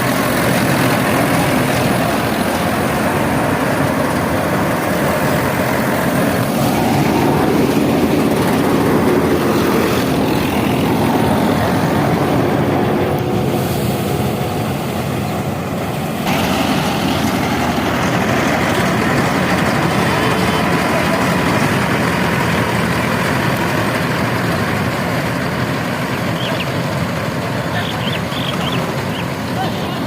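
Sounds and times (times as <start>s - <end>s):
tractor and harvester running: 0.0s - 30.0s.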